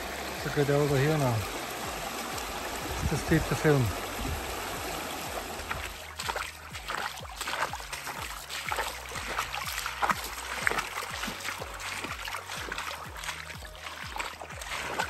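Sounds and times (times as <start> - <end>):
footsteps splashing in stream: 0.0 - 15.0
running water rushing: 0.0 - 15.0.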